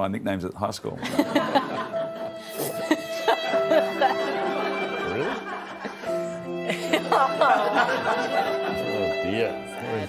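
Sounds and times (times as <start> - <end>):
background music with held notes: 1.0 - 10.0.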